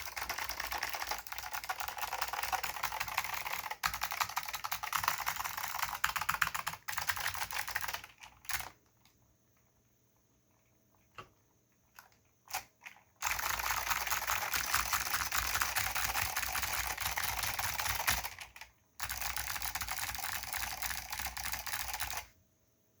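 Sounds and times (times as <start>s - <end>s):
clicky mechanical keyboard typing: 0.0s - 9.2s, 11.0s - 22.3s.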